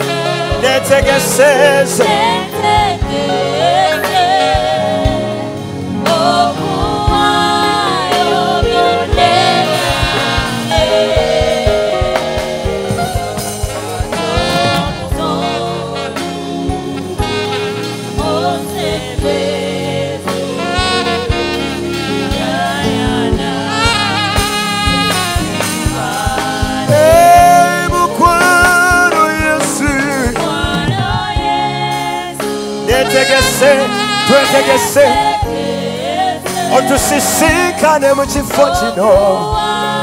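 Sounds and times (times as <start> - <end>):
instrumental accompaniment with beat: 0.0 - 40.0
men singing gospel song: 0.0 - 40.0.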